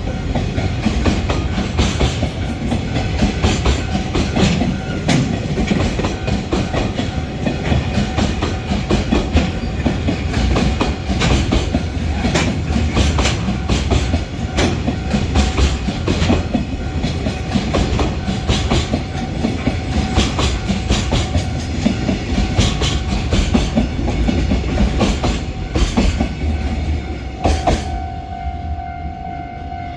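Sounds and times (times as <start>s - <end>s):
wheels clattering over rail joints: 0.0s - 28.0s
freight train rumbling past: 0.0s - 29.9s.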